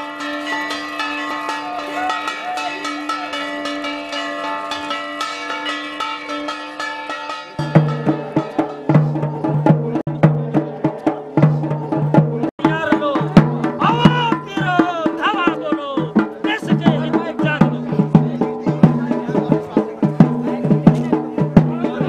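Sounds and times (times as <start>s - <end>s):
bells ringing: 0.0s - 22.0s
drumming with deep beat: 0.1s - 22.0s.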